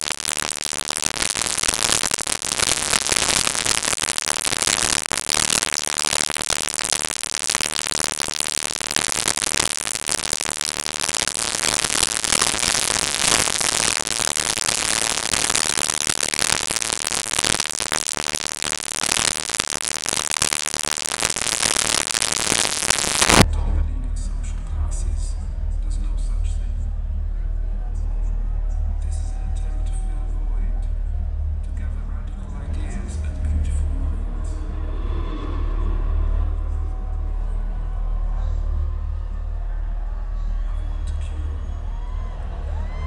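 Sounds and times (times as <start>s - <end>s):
distorted electronic dance music: 0.0s - 34.6s.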